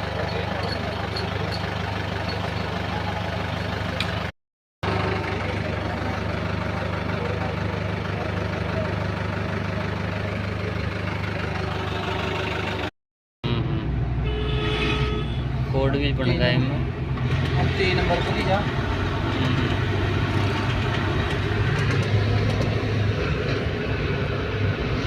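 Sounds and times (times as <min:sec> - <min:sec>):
diesel engine idling: 0:00.0 - 0:12.9, 0:15.2 - 0:25.0.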